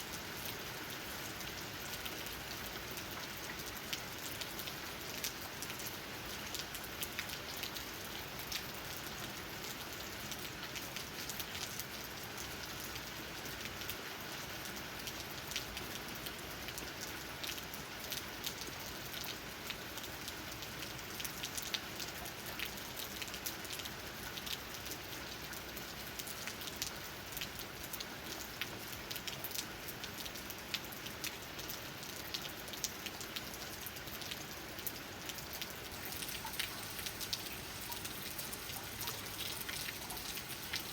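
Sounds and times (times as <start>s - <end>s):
rain hiss: 0.0s - 40.9s
raindrops tapping on leaves: 0.0s - 40.9s.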